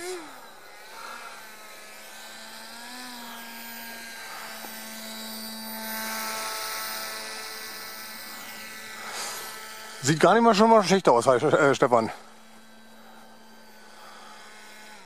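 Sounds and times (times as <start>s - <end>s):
model aircraft propeller whining: 0.0s - 15.0s.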